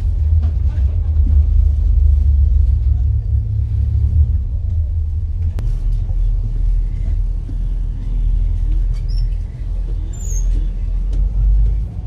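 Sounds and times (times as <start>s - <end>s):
ship engines rumbling: 0.0s - 12.0s.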